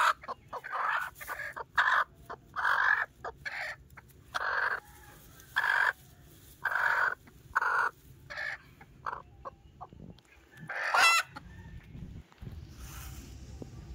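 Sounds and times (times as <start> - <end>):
hen clucking: 0.0 - 12.1.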